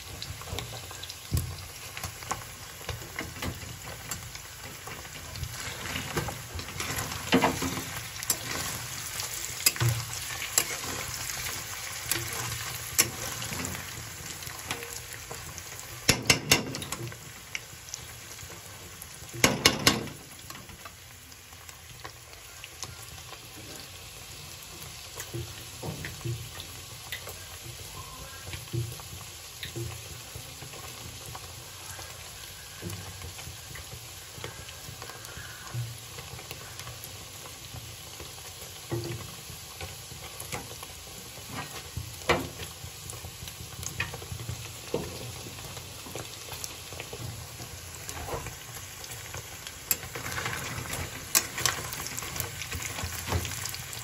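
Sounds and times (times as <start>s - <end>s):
cheese frying in oil: 0.0s - 54.0s
oil popping and crackling: 0.0s - 54.0s.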